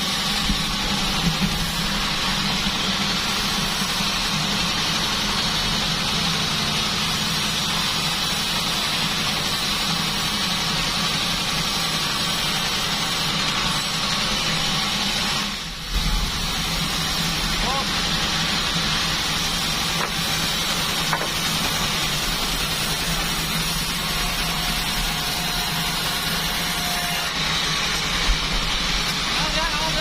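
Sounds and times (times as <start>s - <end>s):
saw blade hiss: 0.0s - 30.0s
sawmill motor hum: 0.0s - 30.0s.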